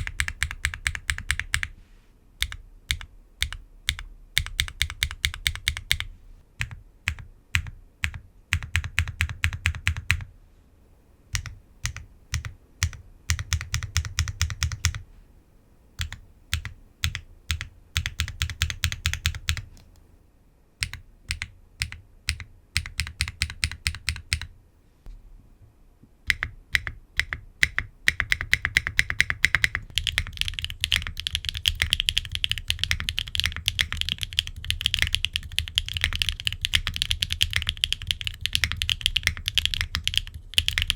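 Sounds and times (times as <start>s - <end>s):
typing on mechanical keyboard: 0.0s - 1.7s, 2.4s - 10.3s, 11.3s - 15.0s, 16.0s - 19.8s, 20.8s - 24.5s, 26.3s - 40.9s.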